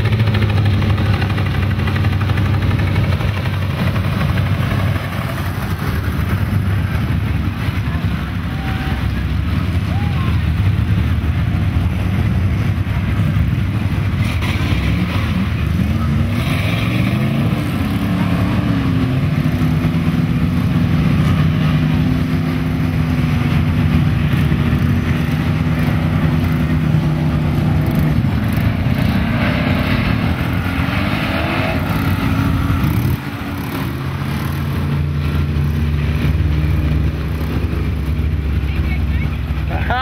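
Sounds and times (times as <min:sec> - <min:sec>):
truck engine revving: 0:00.0 - 0:40.0
truck engine running low: 0:00.0 - 0:40.0.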